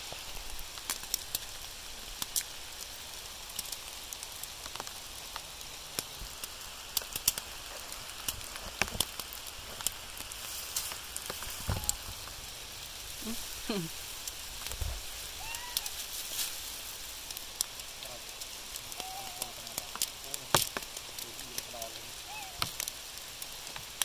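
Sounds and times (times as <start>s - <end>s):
rain falling: 0.0s - 24.0s
raindrops ticking close by: 0.0s - 24.0s.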